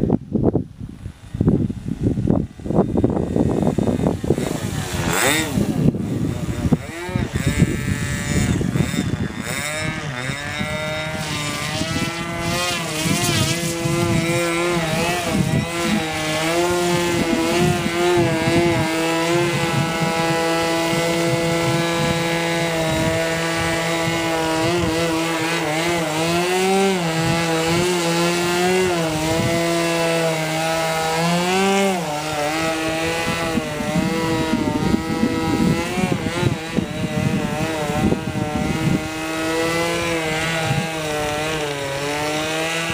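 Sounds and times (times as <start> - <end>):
model aeroplane engine in flight: 0.0 - 42.9
wind rumbling on microphone: 0.0 - 42.9.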